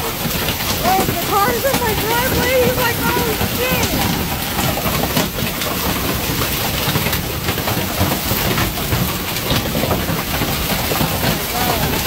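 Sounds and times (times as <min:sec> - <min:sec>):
heavy rain and hail pelting: 0:00.0 - 0:12.0.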